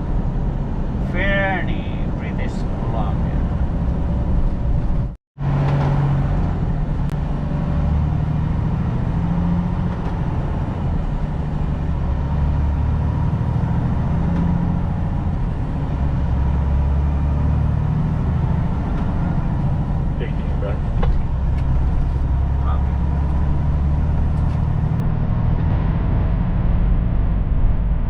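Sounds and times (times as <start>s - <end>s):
road noise: 0.0s - 28.0s
truck diesel engine drone: 0.0s - 28.0s.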